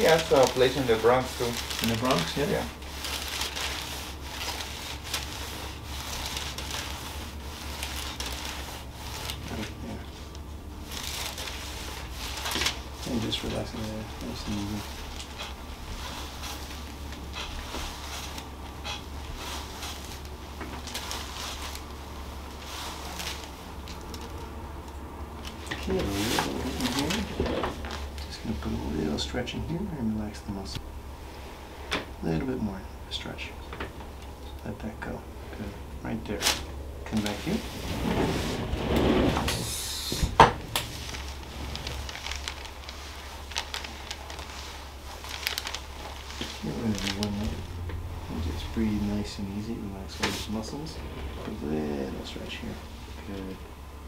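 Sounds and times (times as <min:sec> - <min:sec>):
hands rubbing and clothing rustling: 0:00.0 - 0:29.6, 0:35.7 - 0:53.8
steady low hum: 0:00.0 - 0:54.0.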